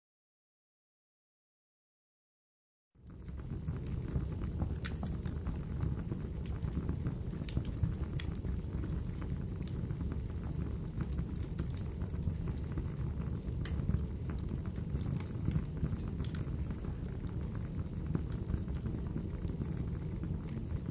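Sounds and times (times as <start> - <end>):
wood fire crackling: 3.0 - 20.9.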